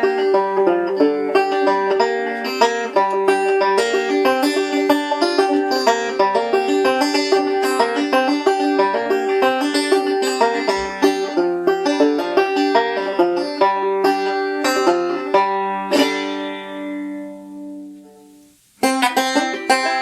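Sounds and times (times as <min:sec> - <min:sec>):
banjo picking: 0:00.0 - 0:20.0.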